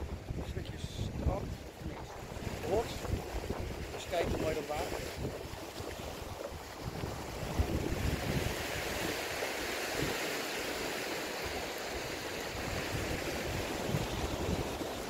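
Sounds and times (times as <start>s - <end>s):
sea waves washing over rocks: 0.0s - 15.0s
wind rumbling on microphone: 0.0s - 15.0s.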